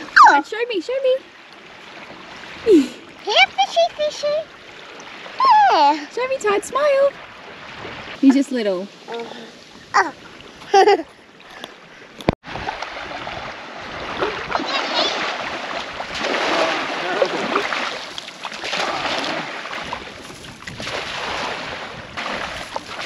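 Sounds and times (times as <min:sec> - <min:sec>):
water splashing and swishing: 0:00.0 - 0:23.0.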